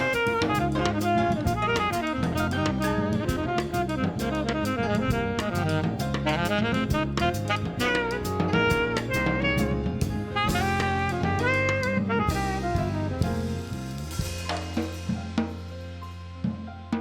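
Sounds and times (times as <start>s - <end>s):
jazz music with saxophone: 0.0s - 17.0s.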